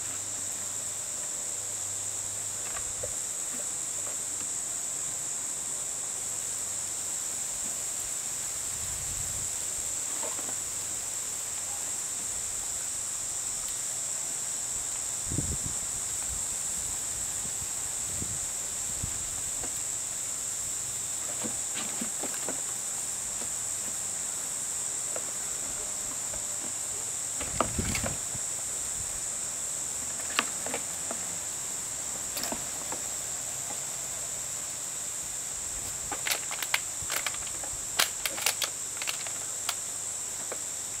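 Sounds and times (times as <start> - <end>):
insect drone: 0.0 - 41.0.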